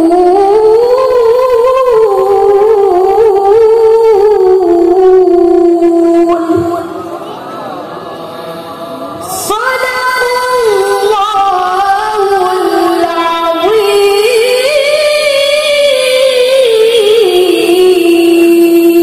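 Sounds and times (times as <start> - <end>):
woman chanting: 0.0 - 7.2, 8.4 - 19.0.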